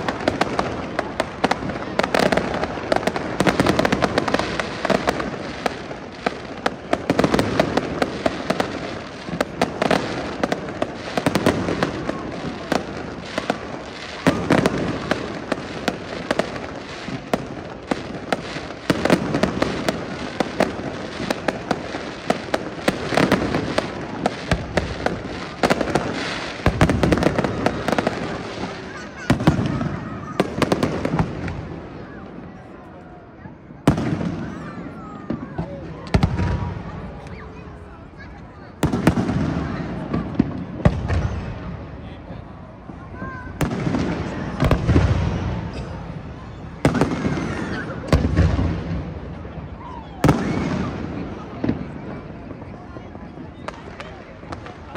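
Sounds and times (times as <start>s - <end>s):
fireworks bursts: 0.0s - 54.9s
fireworks crackling and popping: 0.0s - 54.9s.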